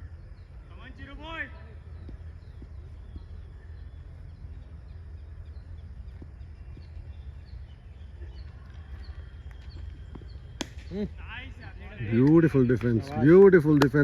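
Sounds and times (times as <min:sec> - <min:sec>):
faint bird chirps: 0:00.0 - 0:12.2
low outdoor rumble: 0:00.0 - 0:14.0.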